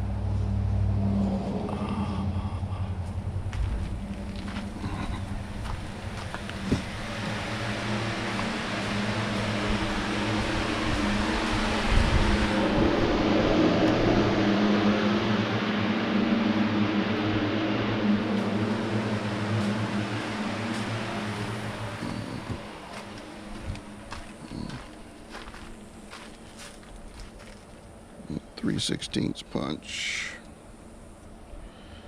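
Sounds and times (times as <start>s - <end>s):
motor hum with low drone: 0.0s - 32.0s.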